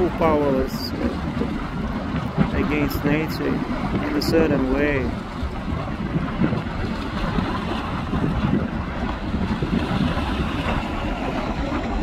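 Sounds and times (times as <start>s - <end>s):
volcanic vent rumbling: 0.0s - 12.0s
wind buffeting microphone: 0.0s - 12.0s.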